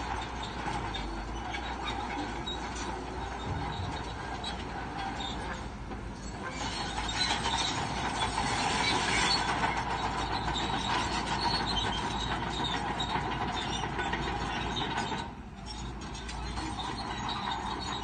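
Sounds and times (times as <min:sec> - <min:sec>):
diesel engine running: 0:00.0 - 0:18.0
steel tracks clattering: 0:00.0 - 0:18.0.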